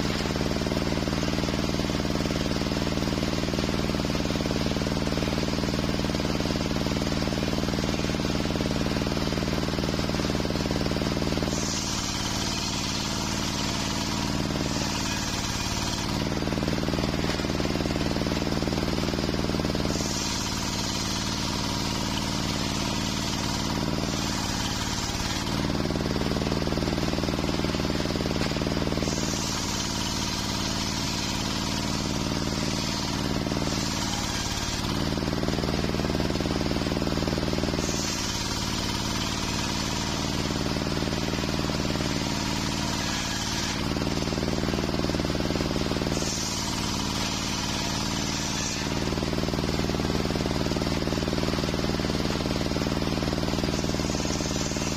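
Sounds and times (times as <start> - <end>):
circular saw cutting wood: 0.0 - 54.9
saw motor droning: 0.0 - 54.9.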